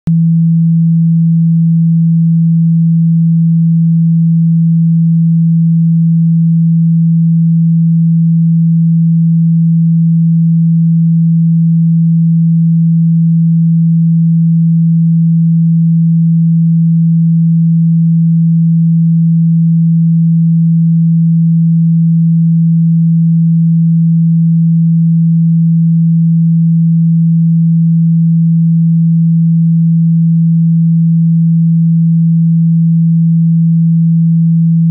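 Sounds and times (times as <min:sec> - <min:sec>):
loud pure sine tone: 0:00.0 - 0:34.9.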